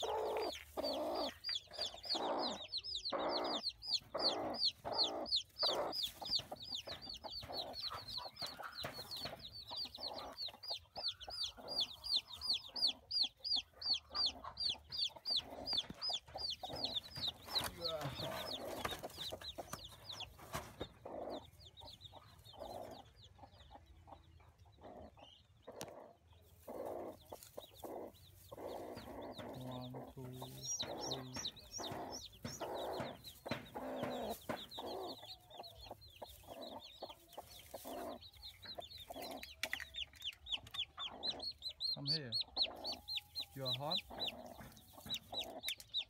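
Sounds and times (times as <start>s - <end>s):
chicks peeping: 0.0s - 46.0s
hen clucking: 0.0s - 46.0s.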